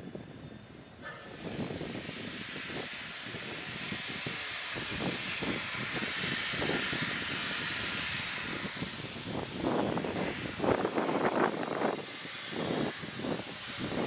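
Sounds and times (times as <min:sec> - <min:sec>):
steam locomotive exhaust chuffs: 0:00.0 - 0:14.0
steam hissing: 0:01.3 - 0:14.0.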